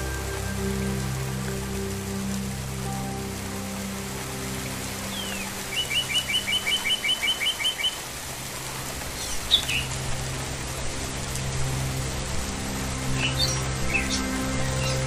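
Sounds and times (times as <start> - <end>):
steady low drone: 0.0 - 6.0, 8.2 - 15.0
songbird chirping: 0.0 - 15.0.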